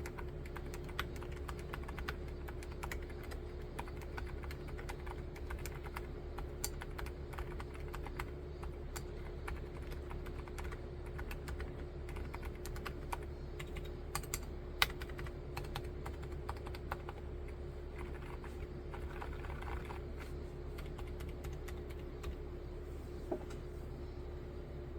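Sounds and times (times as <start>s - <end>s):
mechanical keyboard typing: 0.0s - 17.2s, 17.9s - 20.1s, 20.8s - 22.4s
faint steady hum: 0.0s - 24.9s.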